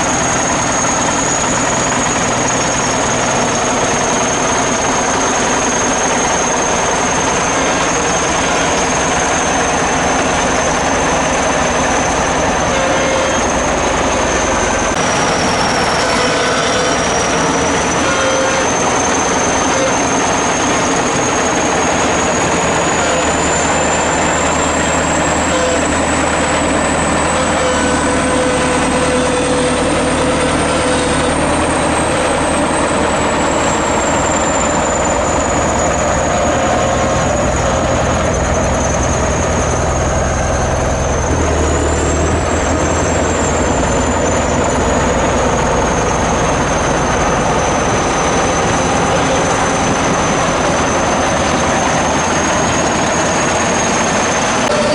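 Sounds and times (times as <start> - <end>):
bulldozer diesel engine running: 0.0 - 54.9
high whine: 0.0 - 54.9.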